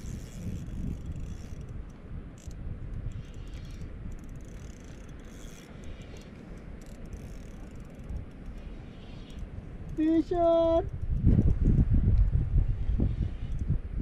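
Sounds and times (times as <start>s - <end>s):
faint sharp ticks: 0.0s - 12.3s
wind rumbling on microphone: 0.0s - 14.0s.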